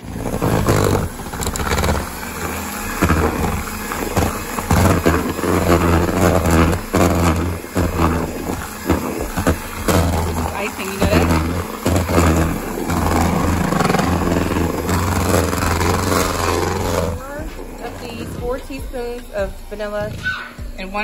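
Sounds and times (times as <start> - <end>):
electric mixer running: 0.0 - 21.0.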